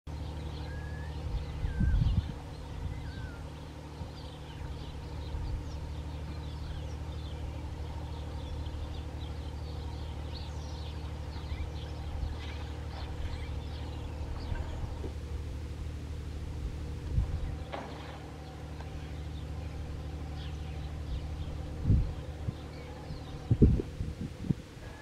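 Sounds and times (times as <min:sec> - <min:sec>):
low mechanical hum: 0:00.1 - 0:25.0
small birds chirping: 0:00.1 - 0:25.0.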